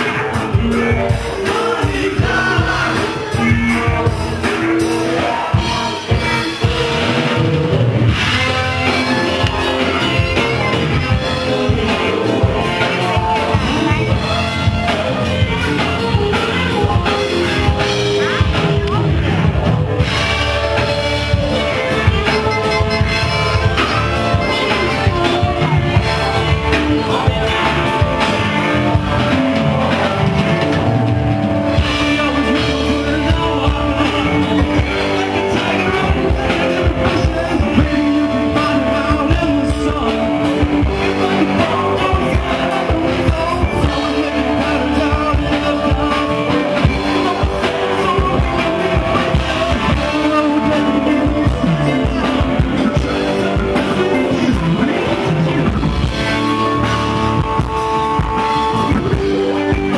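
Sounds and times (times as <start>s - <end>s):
drums: 0.0s - 59.9s
electric guitar: 0.0s - 59.9s
person singing: 0.0s - 59.9s.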